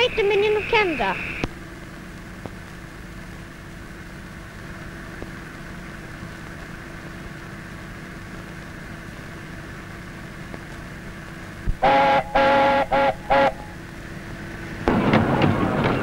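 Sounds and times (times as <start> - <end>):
film soundtrack hiss and hum: 0.0 - 16.0.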